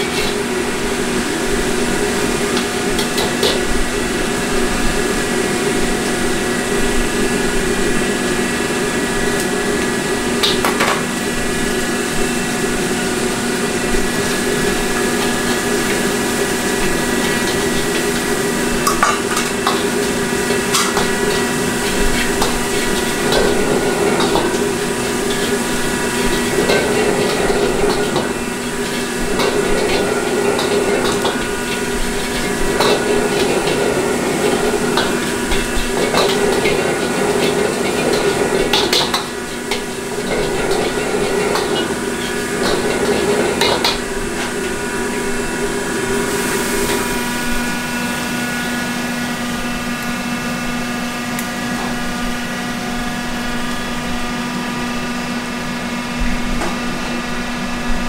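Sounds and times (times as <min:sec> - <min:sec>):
ladle scraping wok: 0:00.0 - 0:54.5
wok burner rushing: 0:00.0 - 0:58.0.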